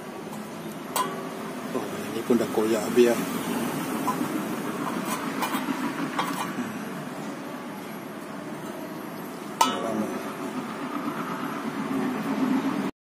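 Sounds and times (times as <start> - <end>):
steady low background noise: 0.0 - 12.9.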